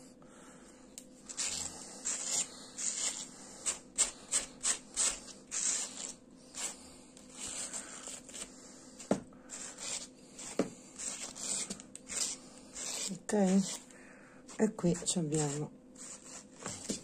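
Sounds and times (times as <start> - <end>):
wire brush scratching through yarn: 1.3 - 8.5, 9.5 - 13.9, 14.5 - 17.0.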